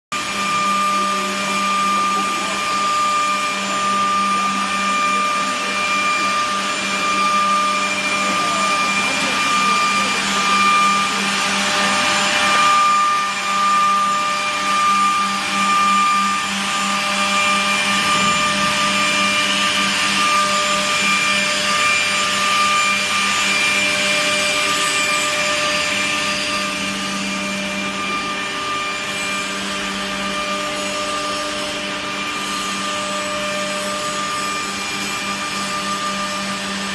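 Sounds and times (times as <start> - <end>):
machine motor hum with whine: 0.2 - 36.9.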